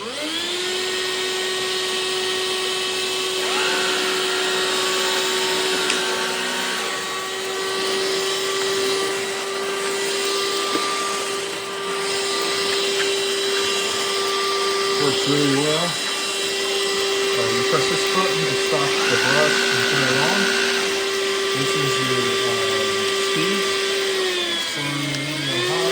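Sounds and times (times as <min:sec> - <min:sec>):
rising whining tones: 0:00.0 - 0:25.9
vacuum motor whine and hum: 0:00.0 - 0:25.9.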